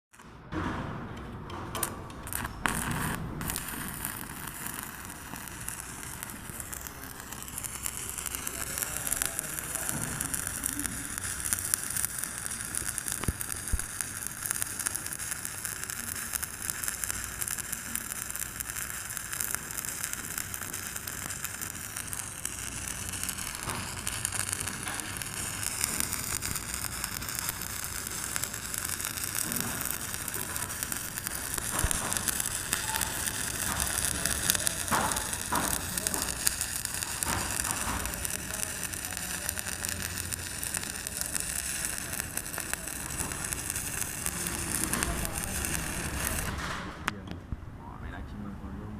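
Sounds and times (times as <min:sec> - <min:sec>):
welding arc crackling: 0:01.7 - 0:47.2.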